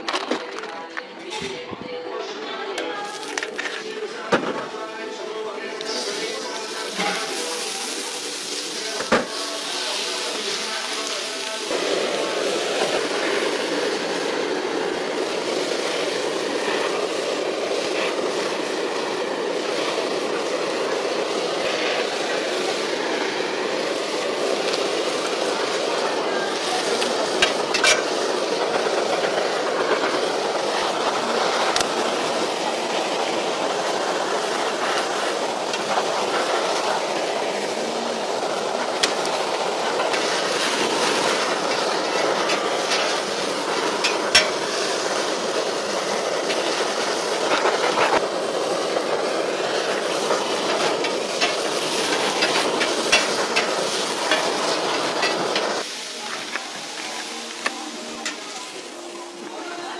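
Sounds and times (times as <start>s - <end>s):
food sizzling on a griddle: 2.8s - 59.9s.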